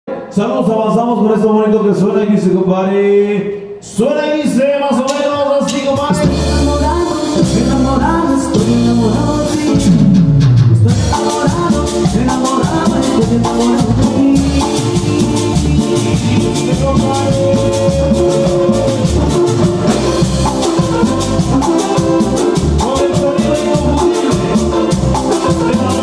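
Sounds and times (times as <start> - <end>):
latin band playing: 3.5 - 26.0.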